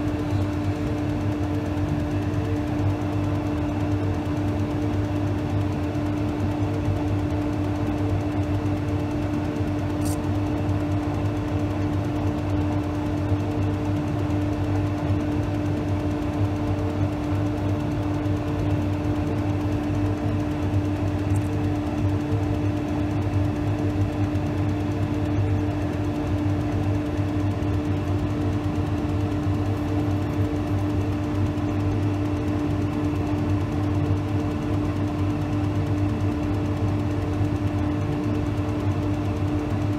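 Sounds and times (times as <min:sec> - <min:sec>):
electric machine hum: 0:00.0 - 0:39.9.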